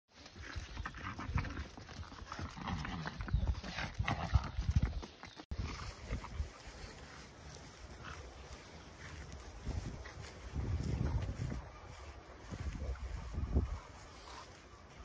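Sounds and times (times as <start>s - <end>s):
hooves clip-clopping on stone: 0.1s - 15.0s.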